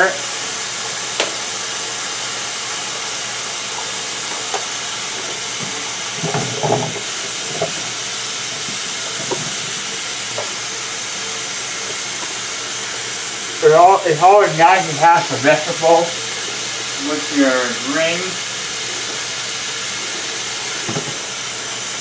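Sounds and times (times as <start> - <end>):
faucet running into sink: 3.7 - 22.0.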